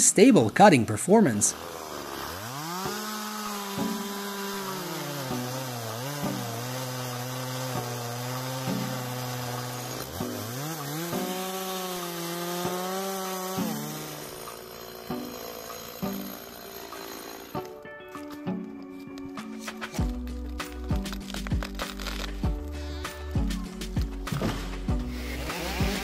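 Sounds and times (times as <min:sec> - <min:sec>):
chainsaw cutting into tree trunk: 0:01.5 - 0:18.3, 0:19.5 - 0:22.8, 0:24.0 - 0:26.0.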